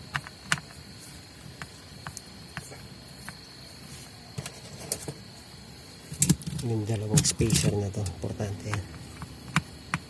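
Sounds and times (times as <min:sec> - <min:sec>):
steady high-pitched whine: 0:00.0 - 0:10.0.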